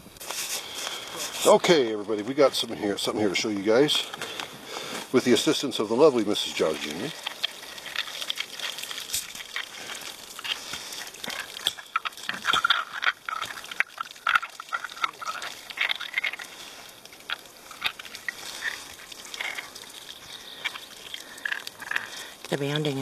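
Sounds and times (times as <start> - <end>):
hands rubbing wet clay: 0.2 - 23.0
water running from spigot: 0.8 - 23.0.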